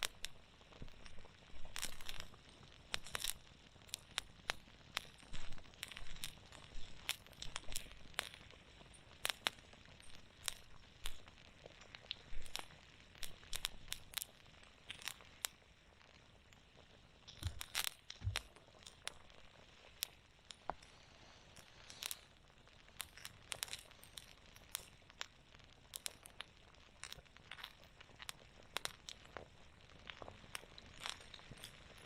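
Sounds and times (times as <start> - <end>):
campfire crackling and snapping: 0.0 - 32.0.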